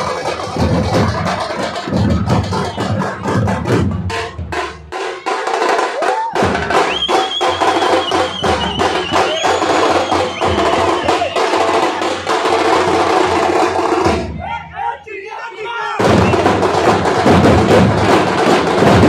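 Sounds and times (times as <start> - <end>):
drum band playing fast rhythm: 0.0 - 19.0.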